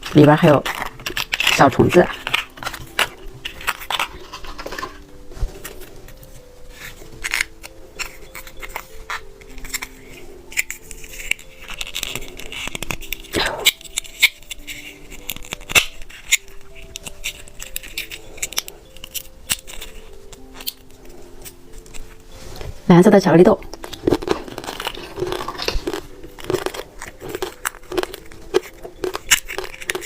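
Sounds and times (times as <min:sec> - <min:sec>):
candy wrapper crackling: 0:00.0 - 0:22.7, 0:23.4 - 0:30.0
soft background music: 0:00.0 - 0:30.0.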